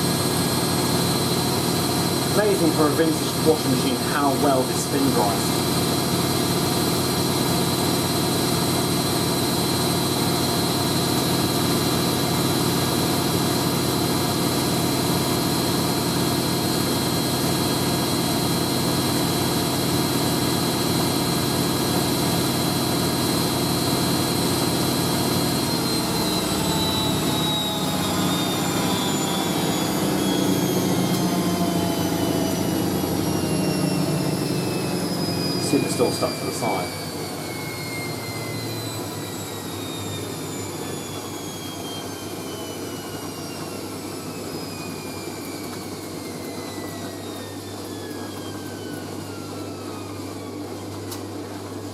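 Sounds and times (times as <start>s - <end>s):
washing machine spin whine: 0.0s - 51.9s.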